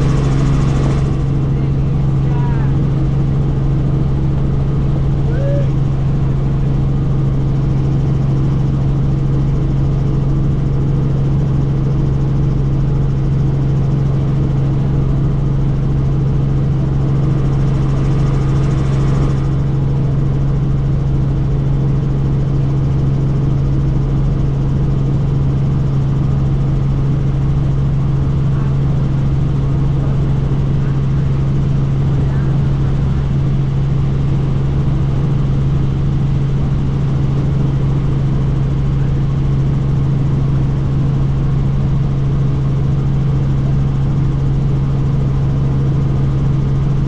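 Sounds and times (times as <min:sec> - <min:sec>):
helicopter rotor and engine drone: 0:00.0 - 0:47.0.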